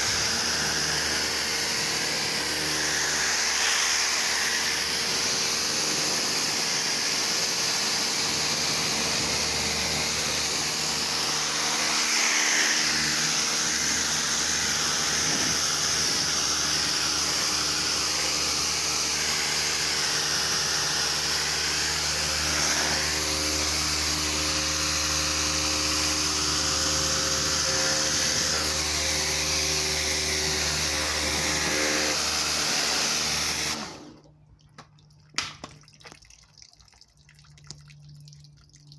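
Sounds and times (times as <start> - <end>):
pressure washer motor hum: 0.0 - 34.3.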